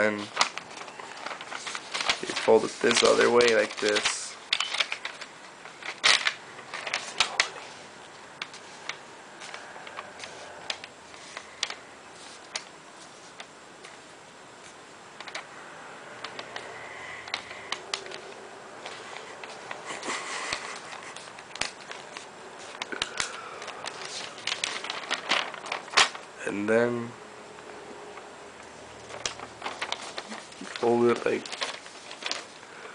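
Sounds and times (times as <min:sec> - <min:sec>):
paper being folded and creased: 0:00.0 - 0:26.4, 0:28.8 - 0:32.9.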